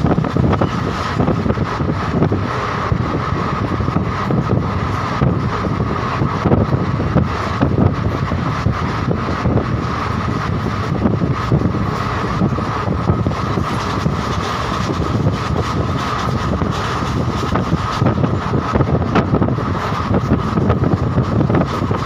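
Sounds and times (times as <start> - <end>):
train wheels rumbling and rattling: 0.0 - 22.0
wind blowing on microphone: 0.0 - 22.0.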